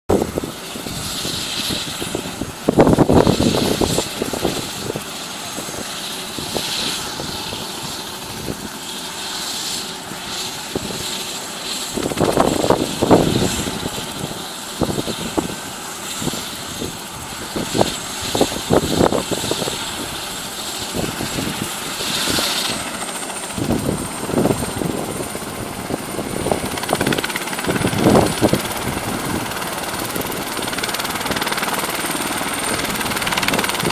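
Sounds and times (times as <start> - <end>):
helicopter rotor and engine: 0.1 - 33.9
helicopter turbine whine: 0.1 - 33.9.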